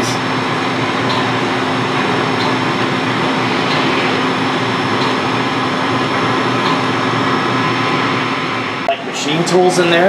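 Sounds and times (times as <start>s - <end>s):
faint high whine: 0.0s - 10.0s
machine running with low hum: 0.0s - 10.0s.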